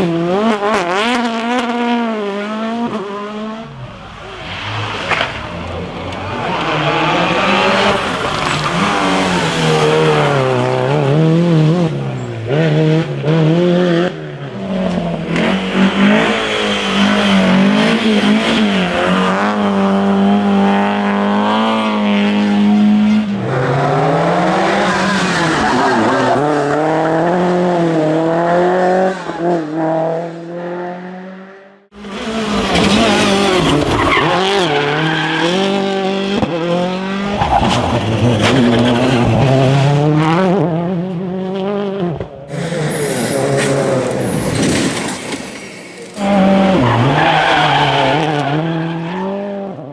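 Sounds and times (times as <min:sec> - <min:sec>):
rally car engines revving: 0:00.0 - 0:49.9.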